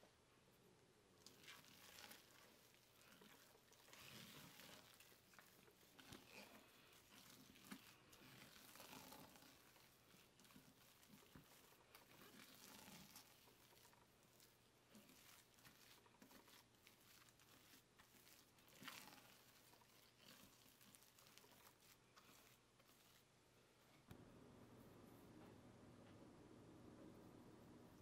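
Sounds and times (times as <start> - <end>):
spatula squishing and scraping: 1.1 - 24.2.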